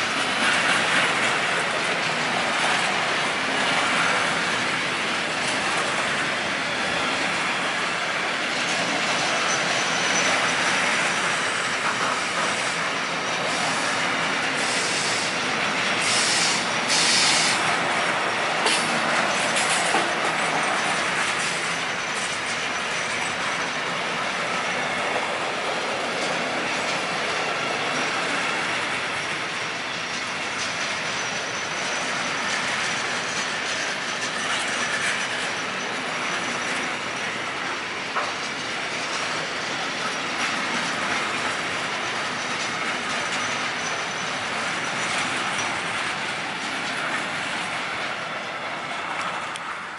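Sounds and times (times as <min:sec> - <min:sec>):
freight wagons rumbling on rails: 0:00.0 - 0:49.9
wheels clattering over rail joints: 0:00.0 - 0:49.9.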